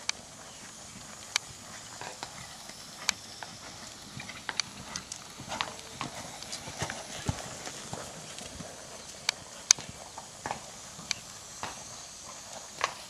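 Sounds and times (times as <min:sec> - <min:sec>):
horse hoofbeats on sand: 0:00.4 - 0:13.0.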